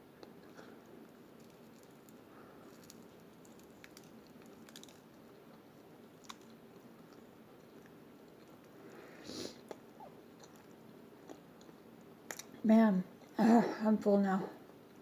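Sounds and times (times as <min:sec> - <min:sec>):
faint chewing: 0:00.2 - 0:12.6.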